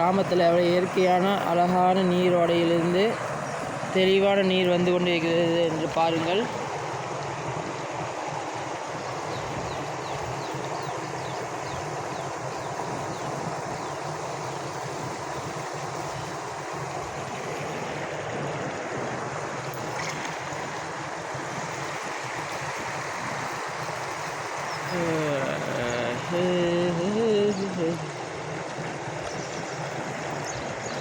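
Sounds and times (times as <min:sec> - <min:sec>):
stream running: 0:00.0 - 0:31.0.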